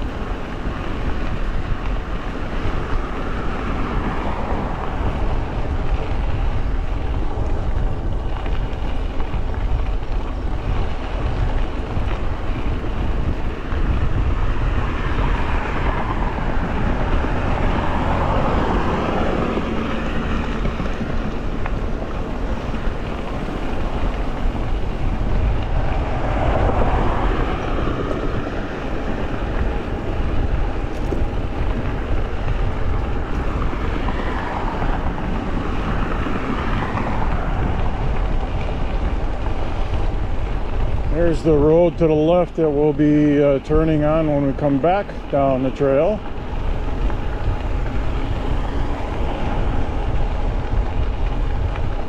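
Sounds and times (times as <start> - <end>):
bike rolling noise: 0.0 - 52.0
wind rushing over microphone: 0.0 - 52.0.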